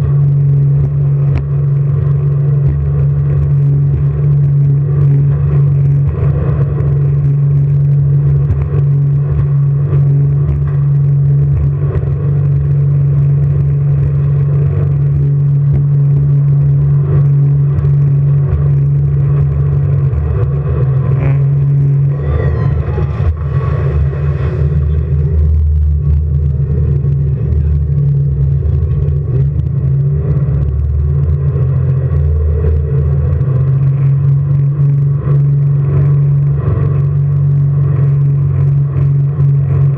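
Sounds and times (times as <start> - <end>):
jet boat engine drone: 0.0 - 39.9.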